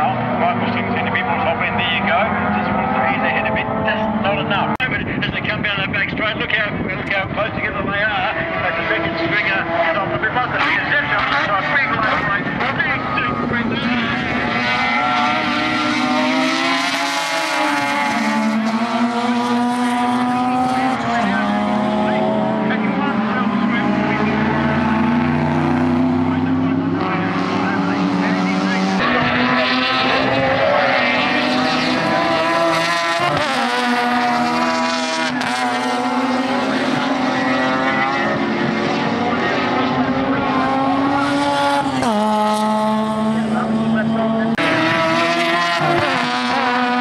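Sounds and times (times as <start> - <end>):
race car engines running hard: 0.0 - 47.0.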